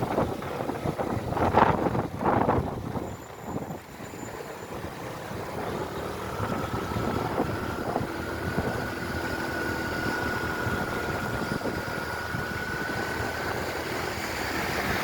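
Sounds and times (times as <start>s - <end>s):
motorcycle engine running: 0.0s - 15.0s
wind rushing on microphone: 0.0s - 15.0s.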